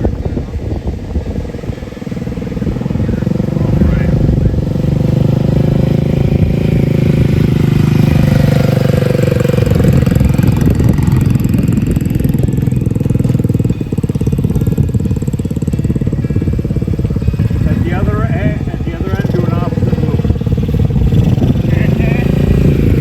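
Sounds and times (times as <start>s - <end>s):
mini bike engine running: 0.0s - 23.0s.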